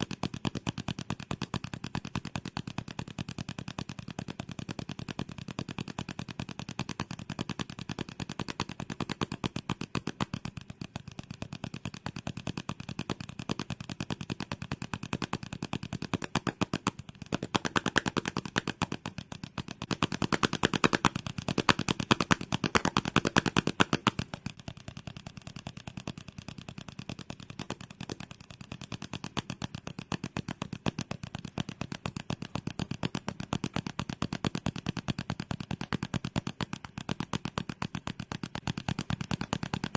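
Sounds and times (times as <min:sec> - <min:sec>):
rapid sharp clicks: 0:00.0 - 0:39.9.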